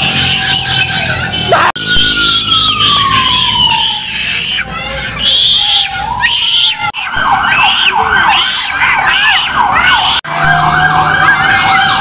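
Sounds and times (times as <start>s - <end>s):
electronic sirens yelping: 0.0s - 12.0s.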